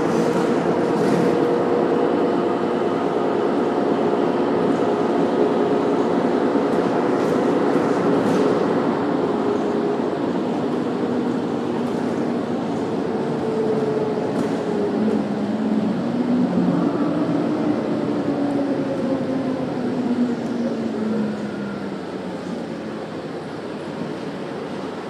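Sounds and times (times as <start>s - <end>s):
bus engine humming and whining: 0.0s - 25.0s
road noise: 0.0s - 25.0s.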